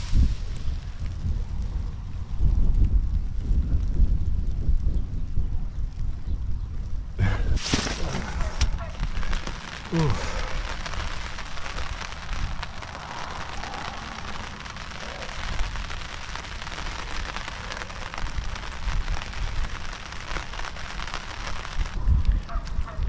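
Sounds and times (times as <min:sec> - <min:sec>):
rain pattering: 0:00.0 - 0:23.0
wind rumbling on microphone: 0:00.0 - 0:23.0.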